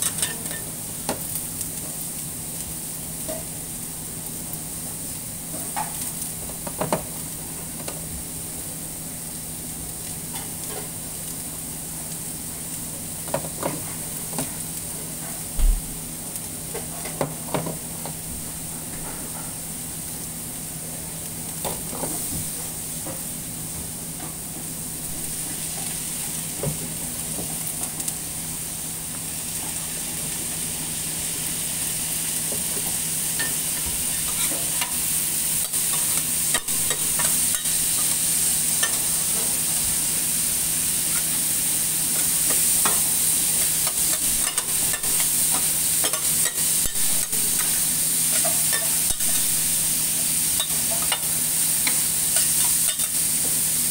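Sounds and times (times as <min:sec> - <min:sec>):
meat and vegetables sizzling on griddle: 0:00.0 - 0:53.9.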